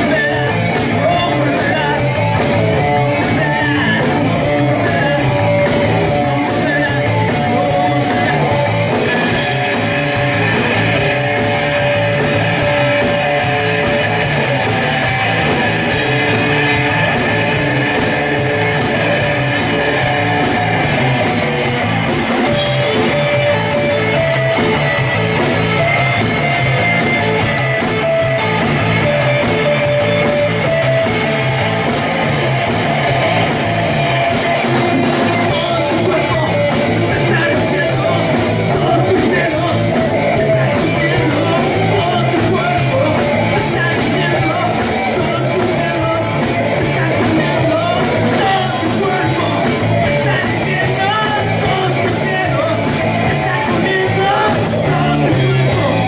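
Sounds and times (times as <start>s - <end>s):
electric guitars: 0.0s - 56.0s
drum kit hits: 2.1s - 56.0s.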